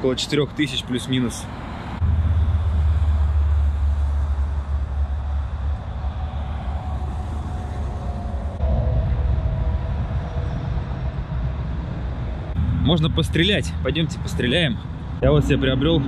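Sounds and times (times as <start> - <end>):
heavy vehicle engine rumbling: 0.0 - 16.0.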